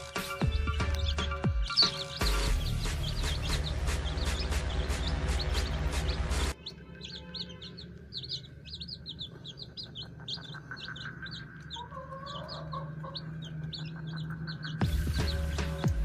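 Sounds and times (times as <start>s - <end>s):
chicks peeping: 0.0s - 16.0s
hen clucking: 0.4s - 15.8s.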